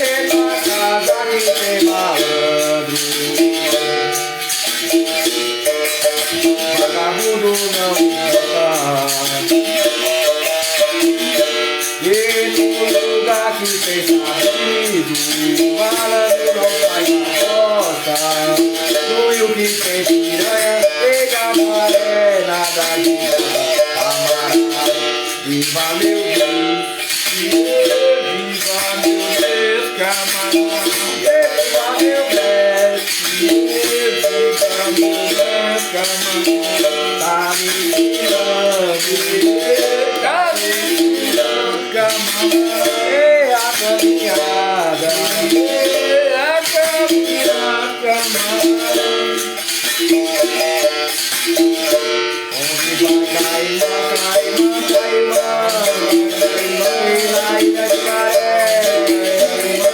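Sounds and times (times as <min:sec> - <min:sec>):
shaker rattle: 0:00.0 - 0:59.9
twanging berimbau notes: 0:00.0 - 0:59.9.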